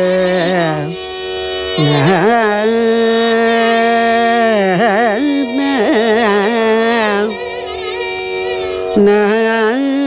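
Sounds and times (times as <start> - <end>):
steady drone: 0.0 - 10.0
woman singing ornamented notes: 0.0 - 10.0.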